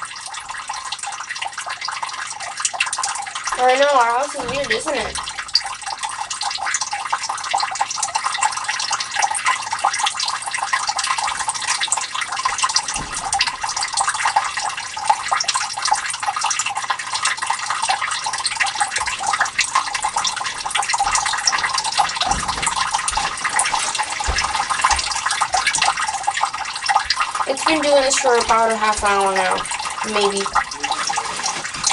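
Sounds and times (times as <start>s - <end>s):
water trickling into a pit: 0.0s - 31.9s.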